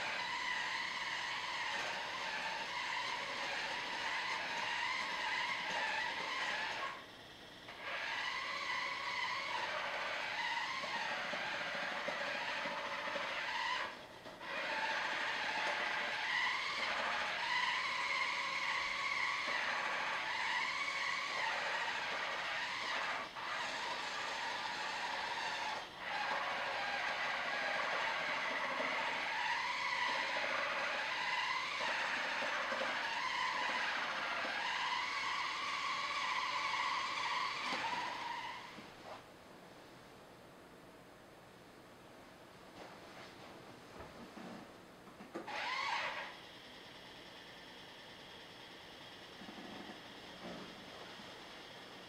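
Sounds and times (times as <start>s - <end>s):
toy truck motors whining: 0.0s - 39.2s, 45.2s - 52.0s.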